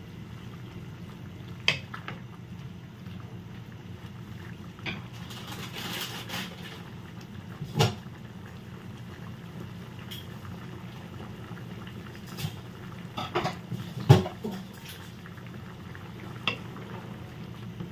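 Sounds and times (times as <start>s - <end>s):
soup bubbling gently: 0.0s - 5.5s, 6.6s - 17.9s.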